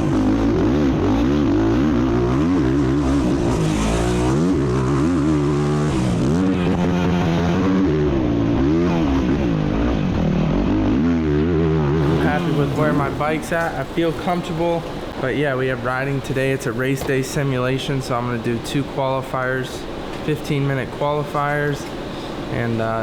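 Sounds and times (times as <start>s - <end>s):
racing engine revving: 0.0s - 23.0s.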